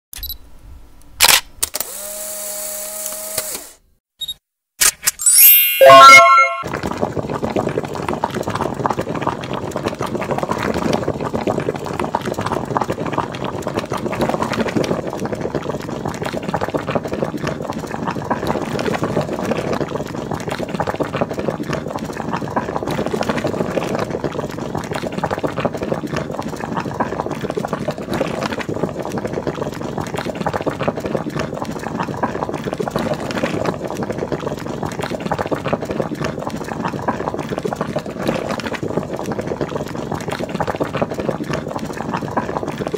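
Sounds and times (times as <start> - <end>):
pot boiling and bubbling: 6.0 - 42.9.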